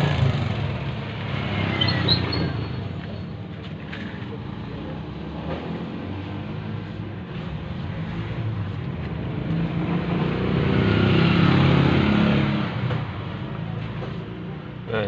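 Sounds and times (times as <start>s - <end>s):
vehicle engine passing by: 0.0s - 3.1s, 3.9s - 13.3s.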